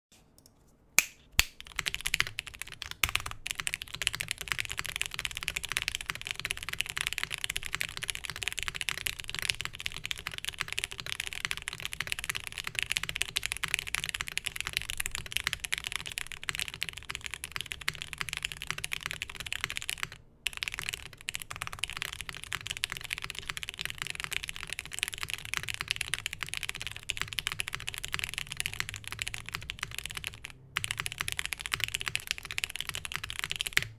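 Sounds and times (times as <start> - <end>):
rapid typing on mechanical keyboard: 1.6 - 33.9.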